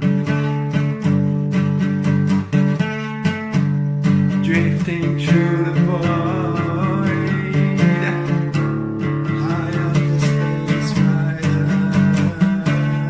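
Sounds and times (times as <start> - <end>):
guitar instrumental music: 0.0 - 13.0.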